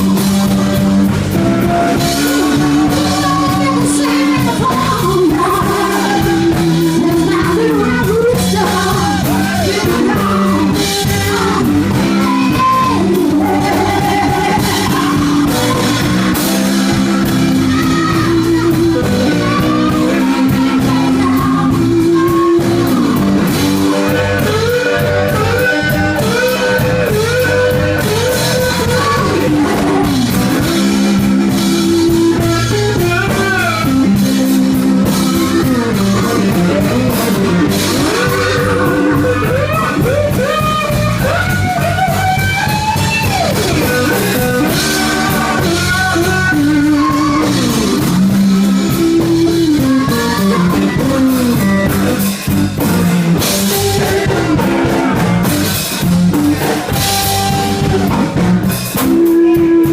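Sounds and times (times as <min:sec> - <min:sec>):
lead guitar bending lines: 0:00.0 - 0:59.9
live blues band playing: 0:00.0 - 0:59.9.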